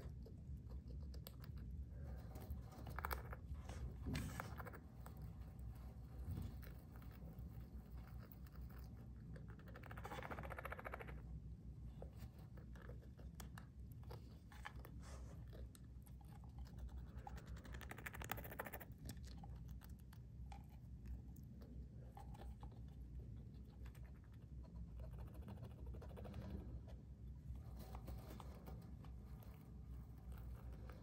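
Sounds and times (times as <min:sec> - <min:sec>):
hamster claws scratching: 0:00.0 - 0:31.0.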